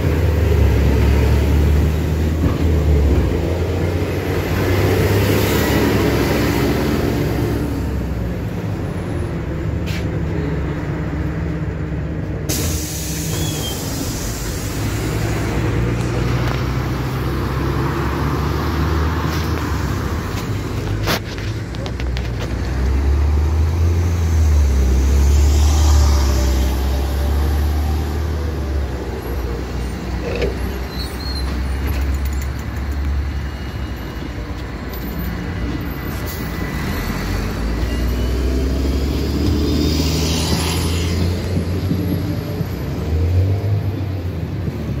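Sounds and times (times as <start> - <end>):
bus engine rumbling: 0.0 - 45.0
passing cars: 0.0 - 45.0.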